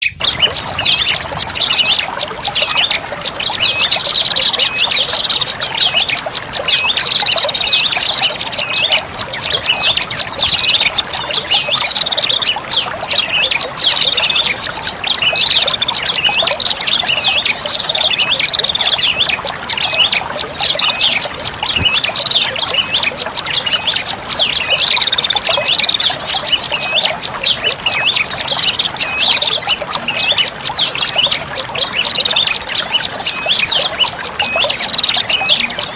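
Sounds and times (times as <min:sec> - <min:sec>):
bird rapid high chirps and trills: 0:00.0 - 0:35.9.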